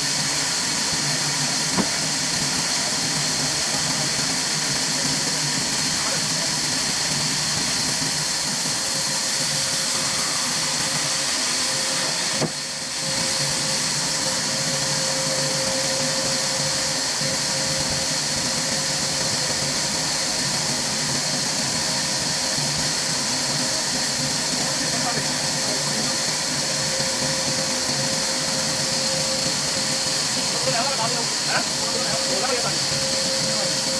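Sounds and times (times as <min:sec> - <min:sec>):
machinery hiss: 0:00.0 - 0:33.9.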